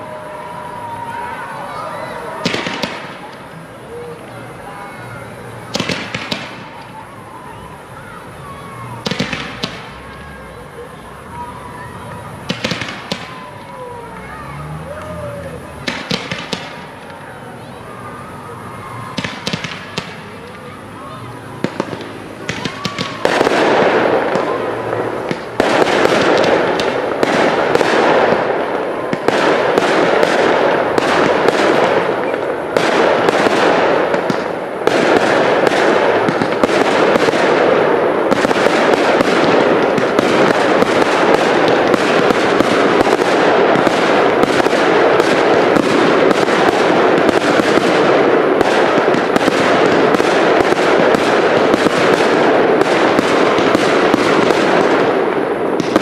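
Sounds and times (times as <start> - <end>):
fireworks launches and bursts: 0.0 - 56.0.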